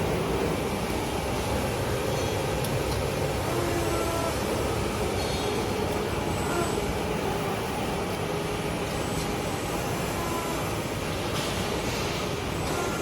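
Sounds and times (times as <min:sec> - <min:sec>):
workshop machinery rumble: 0:00.0 - 0:13.0.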